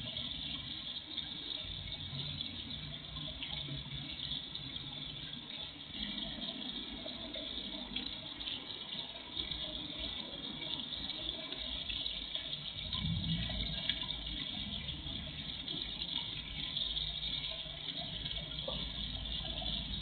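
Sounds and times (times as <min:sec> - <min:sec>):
pond fountain splashing: 0:00.0 - 0:20.0.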